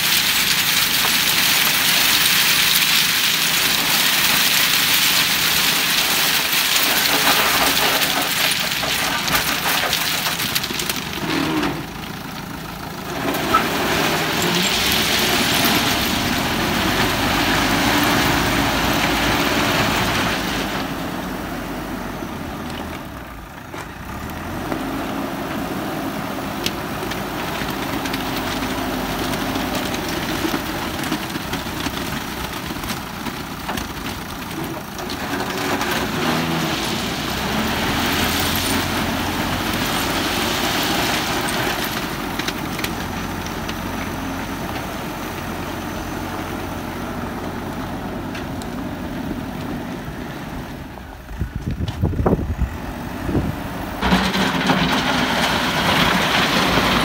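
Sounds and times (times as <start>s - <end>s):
driving over gravel: 0.0s - 57.0s
diesel engine revving: 3.4s - 33.0s, 33.9s - 57.0s.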